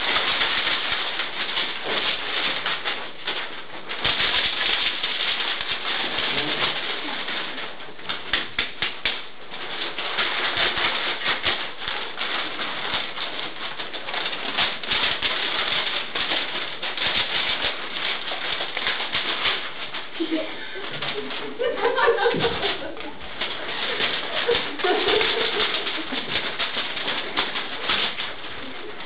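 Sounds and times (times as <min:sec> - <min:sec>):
clothing and paper rustling: 0:00.0 - 0:29.0
shuffling footsteps: 0:00.0 - 0:29.0.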